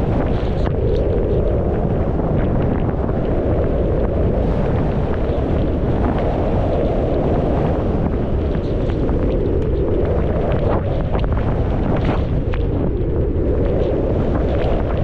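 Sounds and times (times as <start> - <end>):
wind rush on microphone: 0.0 - 15.0.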